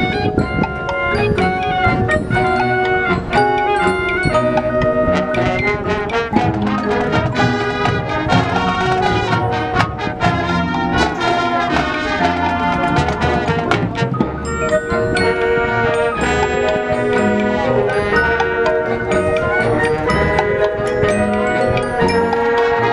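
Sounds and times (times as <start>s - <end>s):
brass chords: 0.0s - 22.9s.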